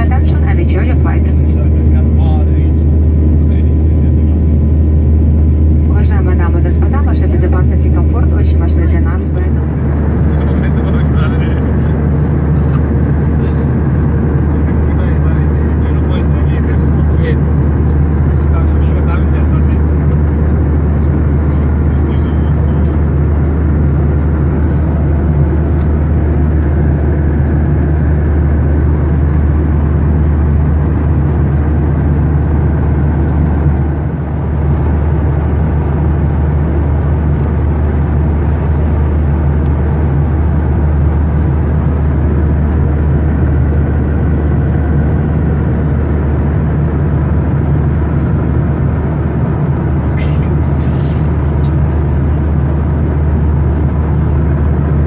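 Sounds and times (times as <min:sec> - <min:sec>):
jet engine rumble in cabin: 0:00.0 - 0:55.0.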